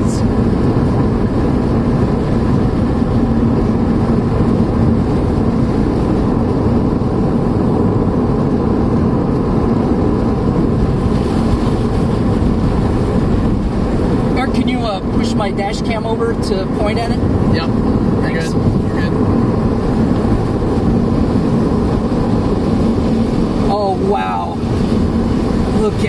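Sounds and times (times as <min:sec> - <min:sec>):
car road noise: 0:00.0 - 0:26.0.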